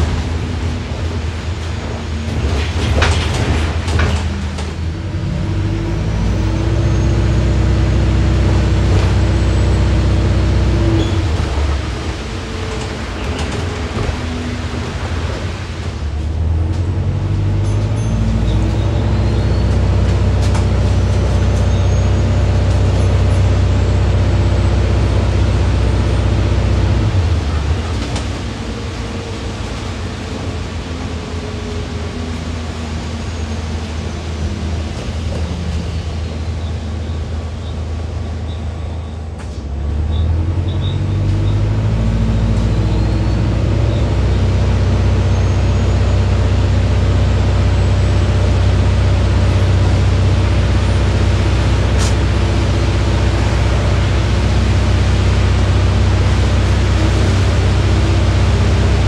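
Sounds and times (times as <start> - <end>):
bus body rattling: 0.0 - 59.0
bus engine droning: 0.0 - 59.0.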